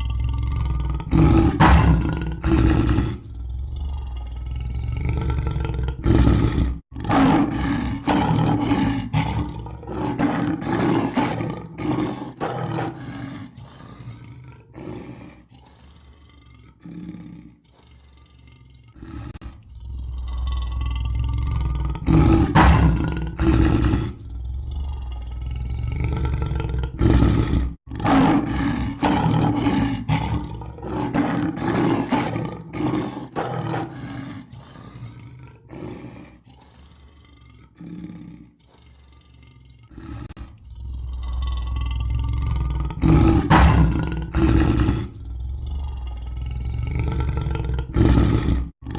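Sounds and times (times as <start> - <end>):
lion roaring and grunting: 0.0 - 48.9.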